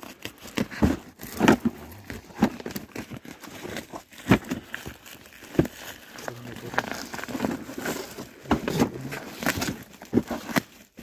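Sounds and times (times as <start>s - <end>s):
plastic-wrapped parcel crinkling: 0.0s - 11.0s.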